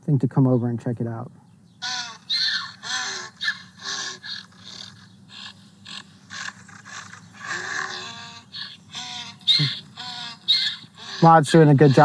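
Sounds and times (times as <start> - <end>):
donkey braying through phone speaker: 1.8 - 12.0.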